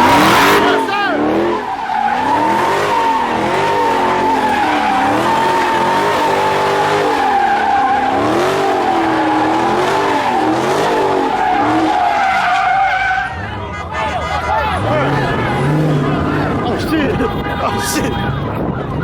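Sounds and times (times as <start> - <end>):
tyres squealing: 0.0 - 18.6
car engine revving: 0.0 - 19.0.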